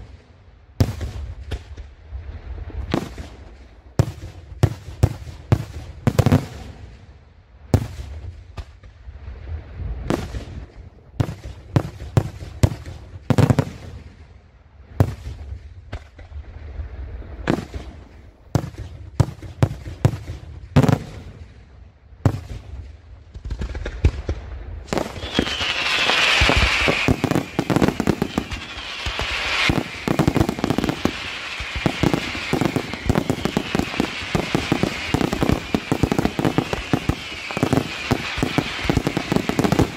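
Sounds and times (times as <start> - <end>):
fireworks crackling and hissing: 0.0 - 39.9
fireworks bursting with bangs: 0.8 - 2.0, 2.9 - 7.0, 10.0 - 14.2, 15.0 - 16.4, 17.4 - 39.9.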